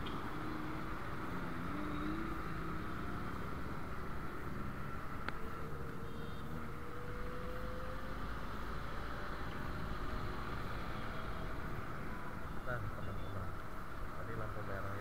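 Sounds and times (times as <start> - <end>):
motorcycle engine and road rumble: 0.0 - 15.0.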